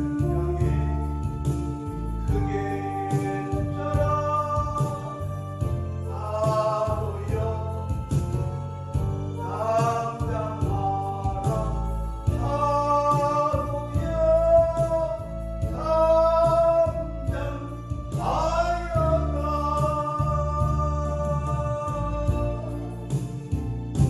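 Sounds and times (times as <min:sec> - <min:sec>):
person singing long held notes: 0:00.0 - 0:23.3
instrumental accompaniment: 0:00.0 - 0:24.0.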